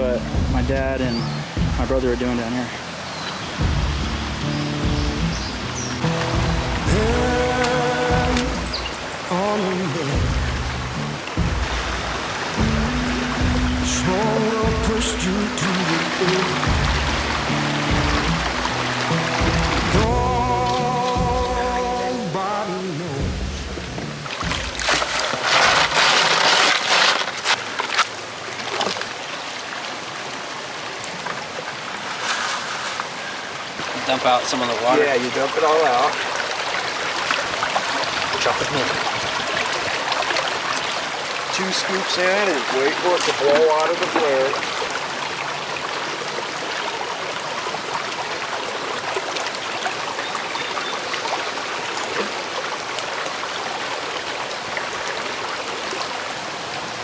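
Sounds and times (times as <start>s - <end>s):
creek water running: 0.0s - 57.0s.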